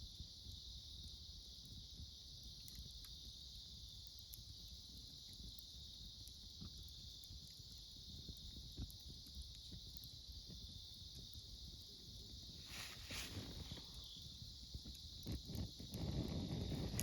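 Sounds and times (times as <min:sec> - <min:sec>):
faint campfire crackles: 0:00.0 - 0:17.0
insects chirping: 0:00.0 - 0:17.0.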